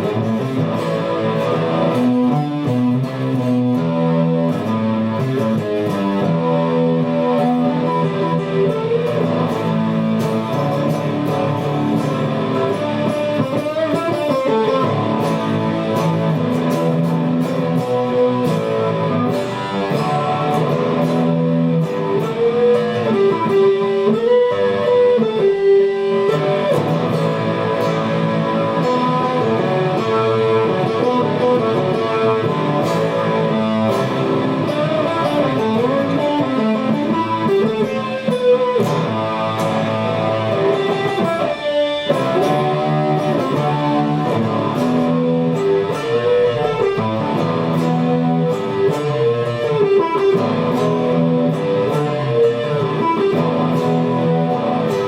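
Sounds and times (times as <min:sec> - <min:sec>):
guitar chords and melody: 0:00.0 - 0:55.0.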